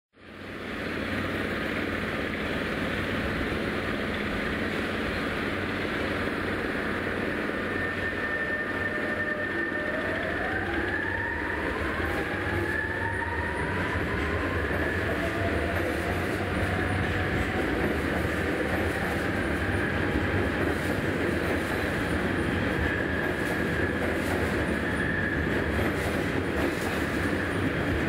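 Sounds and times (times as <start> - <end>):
train wheels rumbling: 0.3 - 28.0.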